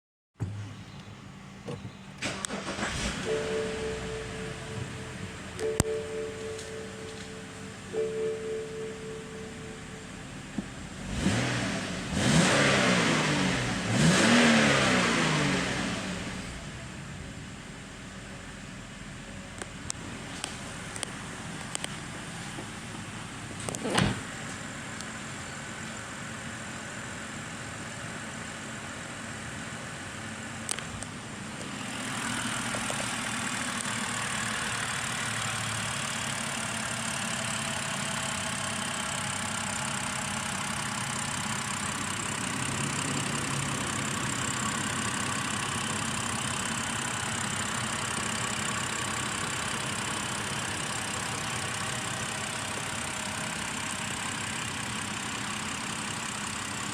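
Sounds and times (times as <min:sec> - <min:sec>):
car engine idling: 0:00.5 - 0:56.9.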